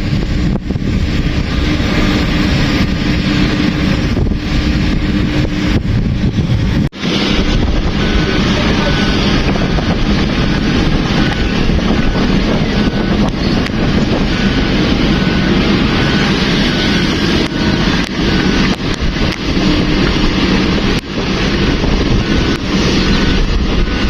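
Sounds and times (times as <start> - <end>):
diesel engine running: 0.0 - 24.0
steady low hum: 0.0 - 24.0
wind buffeting microphone: 0.0 - 24.0.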